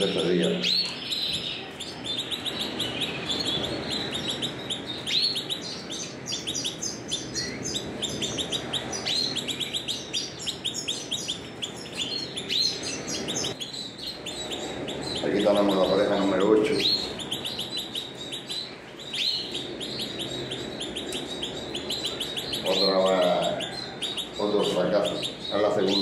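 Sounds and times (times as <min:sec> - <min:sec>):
canaries singing trills: 0:00.0 - 0:26.0
rising swept bird notes: 0:00.0 - 0:26.0.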